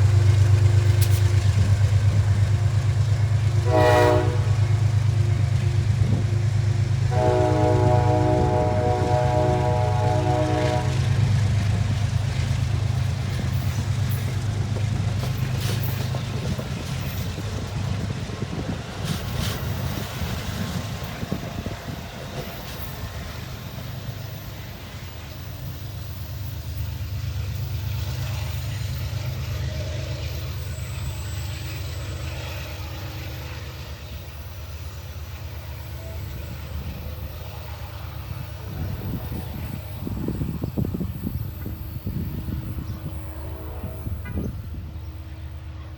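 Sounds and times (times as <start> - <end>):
diesel locomotive droning: 0.0 - 45.9.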